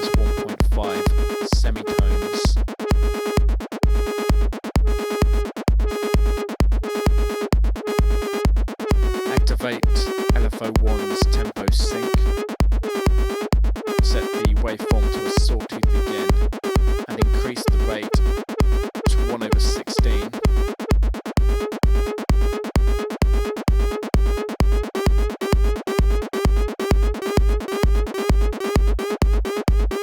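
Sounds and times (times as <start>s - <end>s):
electronic dance kick drum: 0.0s - 30.0s
pulsing synth bass: 0.0s - 30.0s.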